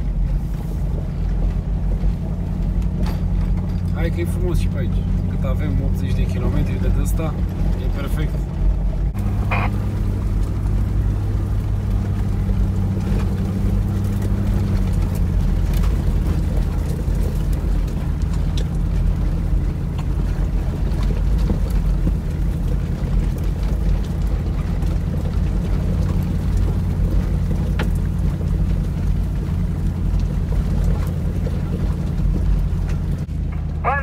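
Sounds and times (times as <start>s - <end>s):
low engine drone: 0.0s - 34.0s
tyres rumbling on gravel: 0.0s - 34.0s
light knocks and rattles: 0.9s - 9.2s, 10.3s - 33.8s.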